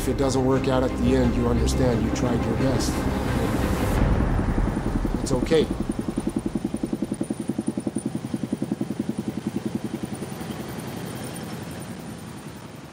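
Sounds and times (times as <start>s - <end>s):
faint steady rumble: 0.0s - 12.9s
helicopter rotor beating: 0.0s - 12.9s.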